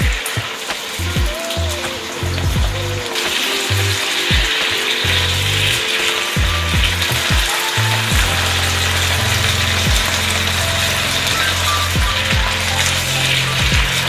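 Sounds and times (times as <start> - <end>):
music with deep bass beat: 0.0 - 14.0.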